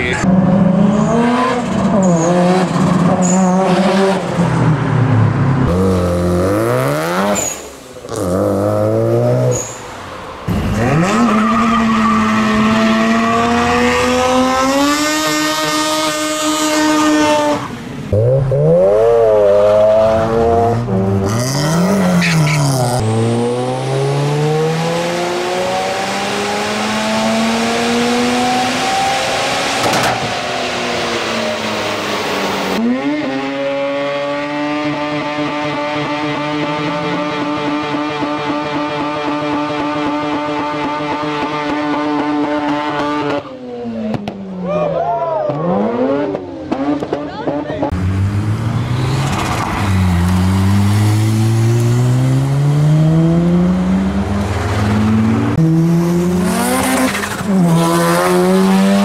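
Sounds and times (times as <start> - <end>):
engines revving hard: 0.0 - 9.8, 10.5 - 44.4, 45.4 - 59.0.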